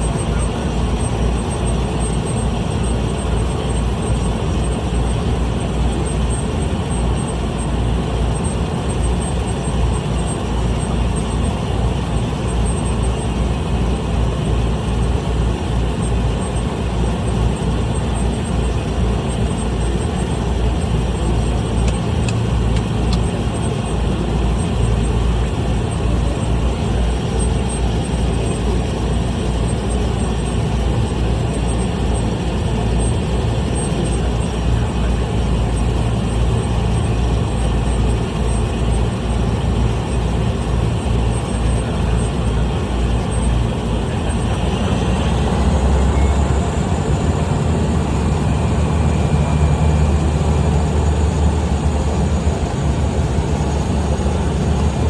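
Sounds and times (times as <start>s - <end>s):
small plane engine and propeller: 0.0s - 55.0s.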